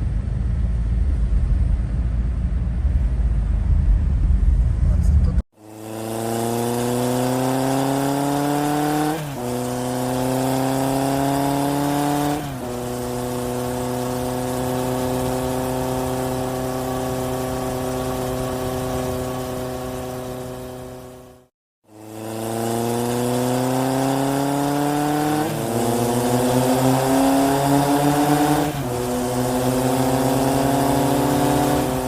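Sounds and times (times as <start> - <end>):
car engine accelerating: 3.0 - 32.0.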